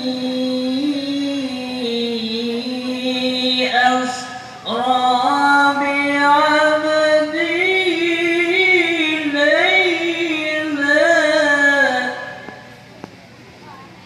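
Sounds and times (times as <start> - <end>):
man reciting melodically: 0.0 - 12.6.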